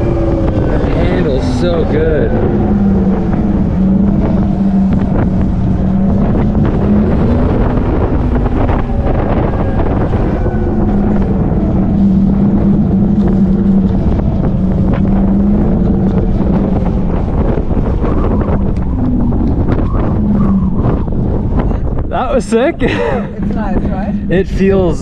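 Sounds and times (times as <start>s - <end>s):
electric motorcycle hum: 0.0s - 25.0s
wind rushing over microphone: 0.0s - 25.0s.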